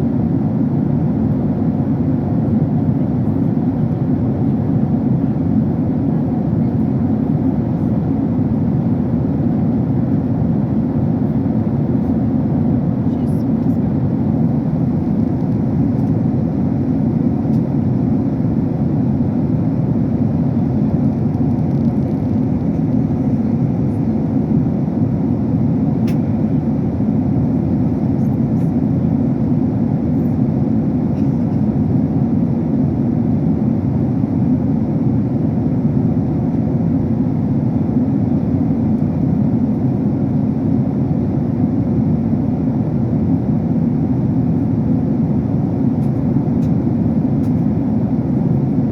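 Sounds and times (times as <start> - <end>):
airliner cabin drone: 0.0 - 48.9.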